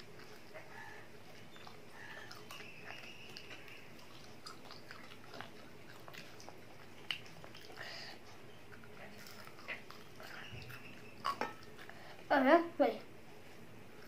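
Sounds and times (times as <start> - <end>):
child chewing: 0.0 - 12.3.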